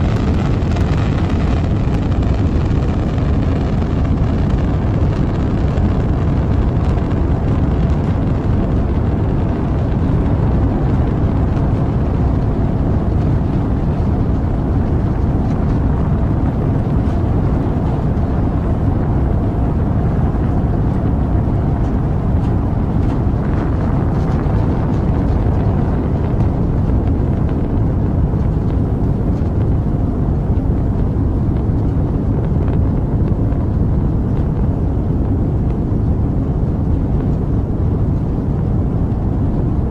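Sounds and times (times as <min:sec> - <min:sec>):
rocket engine rumbling: 0:00.0 - 0:39.9.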